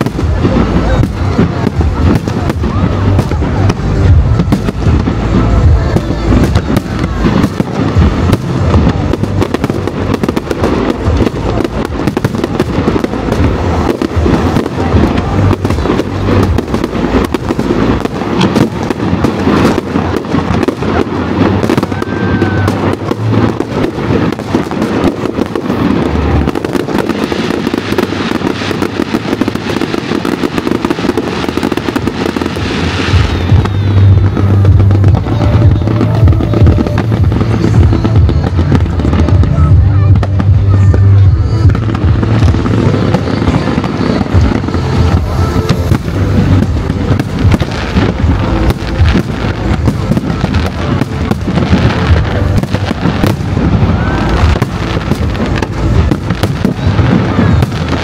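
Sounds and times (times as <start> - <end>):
deep fireworks booms: 0.0 - 58.0
fireworks bursts and crackles: 0.0 - 58.0.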